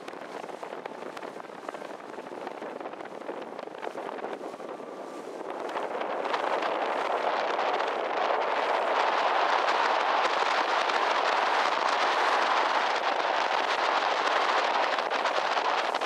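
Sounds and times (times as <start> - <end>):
fine crackle: 0.0 - 16.0
wind buffeting microphone: 0.0 - 16.0.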